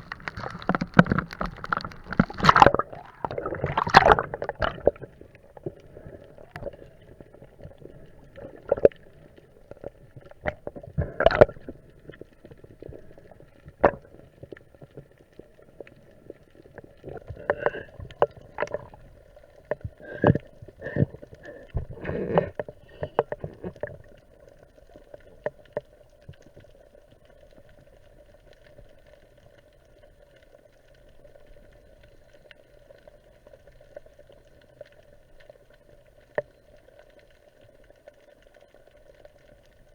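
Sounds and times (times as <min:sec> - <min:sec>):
water sloshing underwater: 0:00.0 - 0:39.9.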